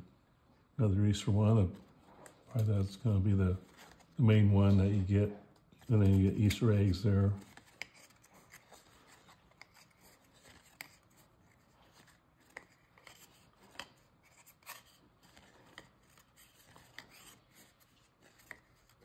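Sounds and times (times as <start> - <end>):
cardboard cards rubbing: 1.7 - 19.0.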